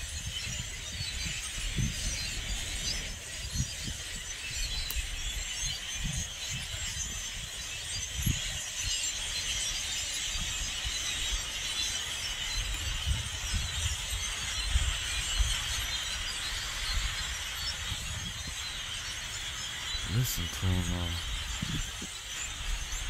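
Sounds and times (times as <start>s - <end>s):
flock of blackbirds calling: 0.0s - 23.0s
wind rumbling on microphone: 0.0s - 23.0s.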